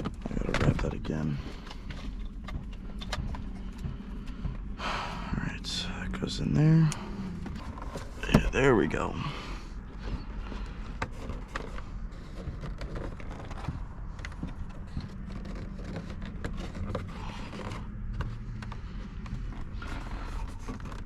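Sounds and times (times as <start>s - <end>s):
scraping of plastic parts: 0.0s - 4.5s, 6.9s - 21.0s
steady low rumble: 0.0s - 21.0s.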